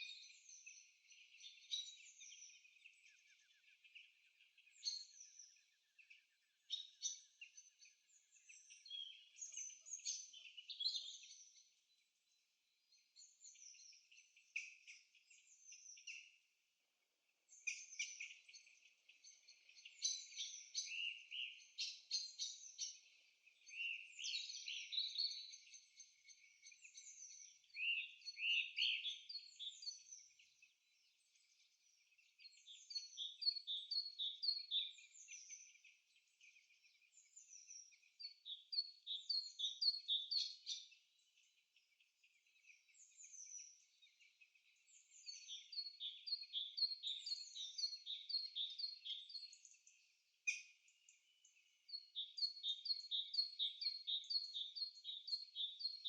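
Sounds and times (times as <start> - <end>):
bird song with chirps: 0.0 - 56.0.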